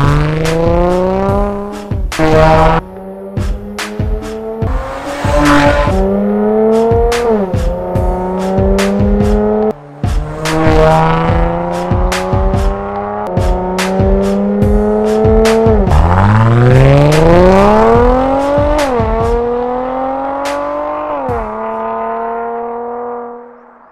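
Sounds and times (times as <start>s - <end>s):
music with steady drum beat: 0.0s - 21.8s
car engine revving: 0.0s - 23.9s.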